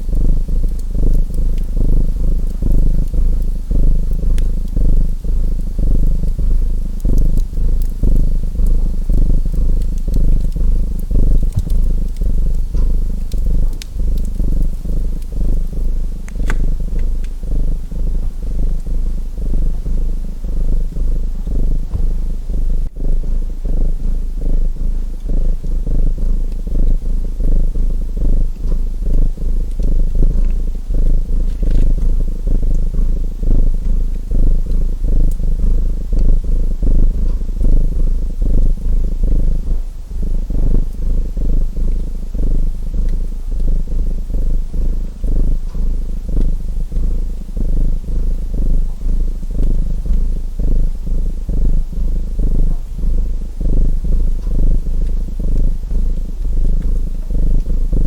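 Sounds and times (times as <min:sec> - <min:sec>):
cat purring: 0:00.0 - 0:58.0
faint wood fire crackles: 0:00.0 - 0:58.0.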